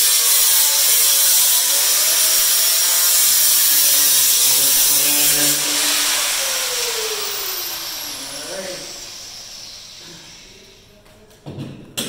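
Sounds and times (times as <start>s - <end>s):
angle grinder cutting metal: 0.0s - 10.8s.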